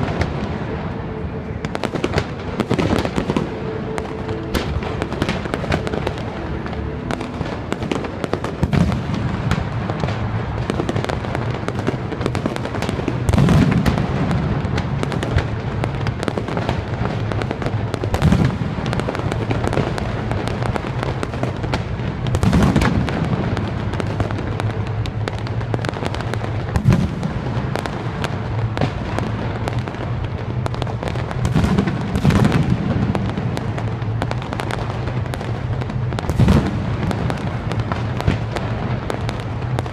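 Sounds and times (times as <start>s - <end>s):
music: 0.0s - 39.0s
fireworks bursts: 0.0s - 39.9s
fireworks crackling and popping: 0.0s - 39.9s.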